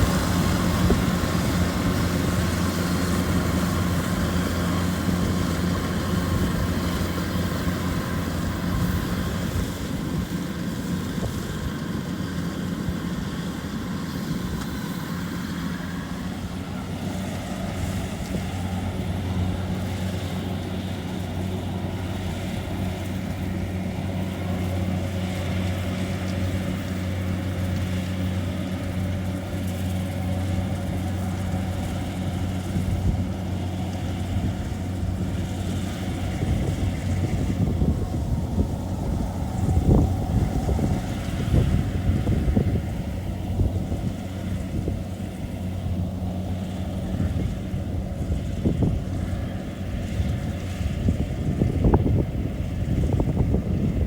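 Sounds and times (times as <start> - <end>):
diesel engine drone: 0.0 - 54.0.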